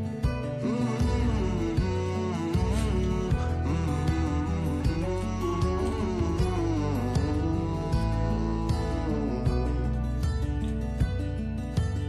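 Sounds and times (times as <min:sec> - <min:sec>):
plucked-string tune: 0:00.0 - 0:12.0.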